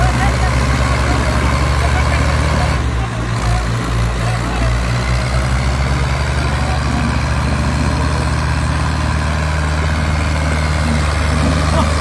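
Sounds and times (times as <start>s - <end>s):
tractor diesel engines under load: 0.0s - 12.0s.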